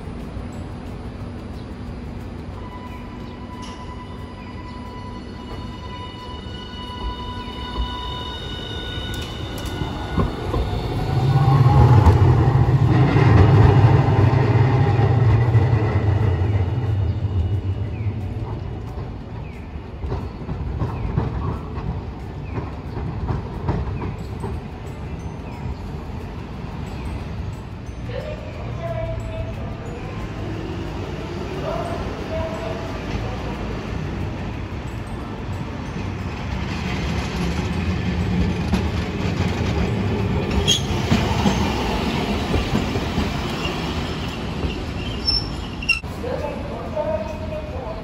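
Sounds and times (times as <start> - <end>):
streetcar rumble and hum: 0.0 - 48.0
wheels clacking on rails: 0.0 - 48.0.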